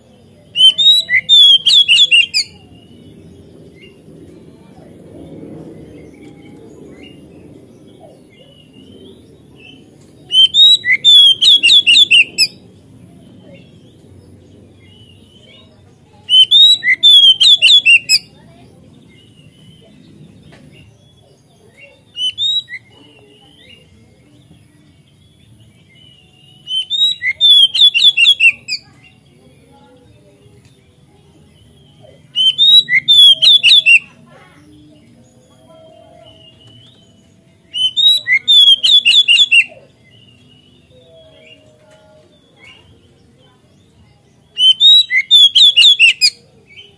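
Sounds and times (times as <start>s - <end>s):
bird singing ringing notes: 0.0s - 4.0s, 5.7s - 46.9s.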